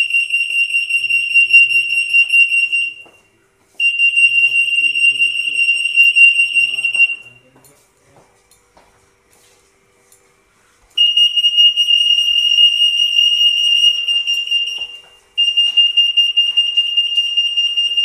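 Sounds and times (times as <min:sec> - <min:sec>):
security gate alarm beeping: 0:00.0 - 0:07.6, 0:11.0 - 0:18.0.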